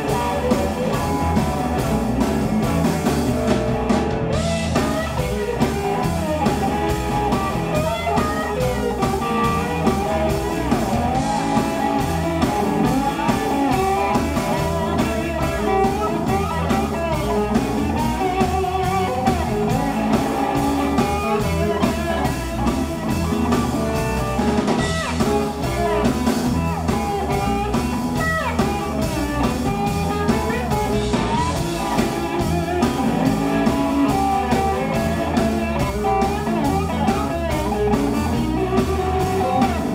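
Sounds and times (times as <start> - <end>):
bass: 0.0 - 39.9
drum kit: 0.0 - 39.9
electric guitar lead: 0.0 - 39.9.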